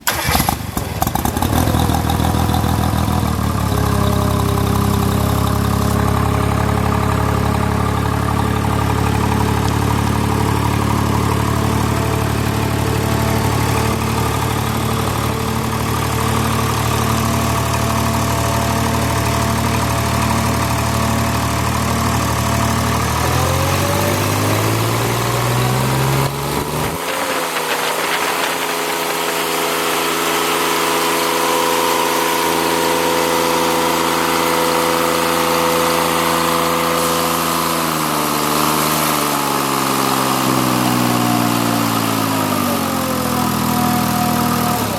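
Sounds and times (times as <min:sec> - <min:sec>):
engine idling and revving up: 0:00.0 - 0:44.9.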